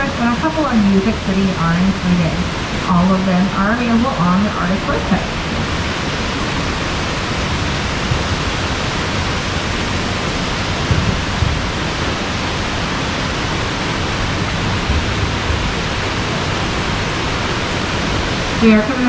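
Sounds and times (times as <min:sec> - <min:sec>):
low rumble: 0:00.0 - 0:19.0
waterfall rushing hiss: 0:00.0 - 0:19.0.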